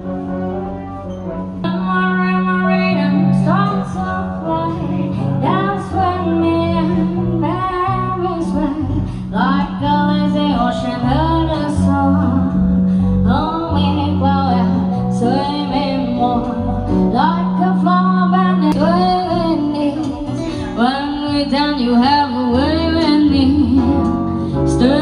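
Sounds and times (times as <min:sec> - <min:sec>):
plucked guitar: 0:00.0 - 0:25.0
steady bass line: 0:00.0 - 0:25.0
woman singing: 0:01.6 - 0:25.0.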